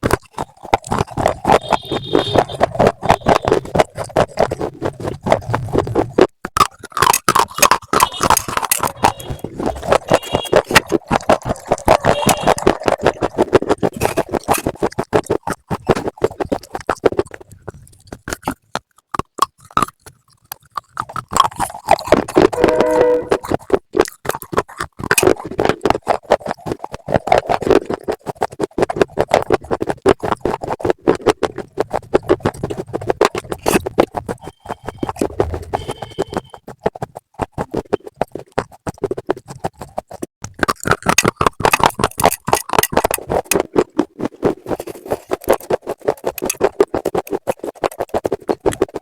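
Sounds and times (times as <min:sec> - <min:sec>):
crunching and chewing: 0:00.0 - 0:22.6, 0:23.3 - 0:49.0.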